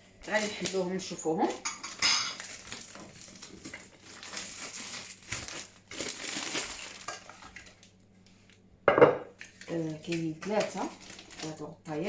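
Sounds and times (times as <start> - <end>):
packaging crinkling and rustling: 0.2 - 8.6, 9.4 - 11.8.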